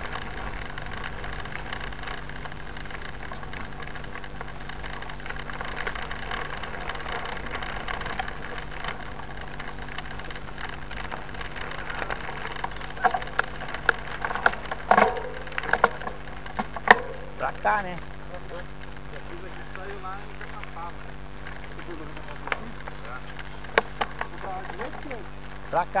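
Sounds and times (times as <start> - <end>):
bike tyres crunching on gravel: 0.0 - 26.0
sharp clicks and rattles: 0.0 - 26.0.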